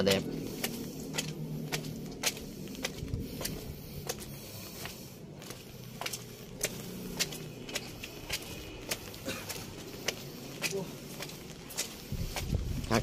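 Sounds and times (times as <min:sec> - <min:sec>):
footsteps on stone stairs: 0:00.0 - 0:13.0.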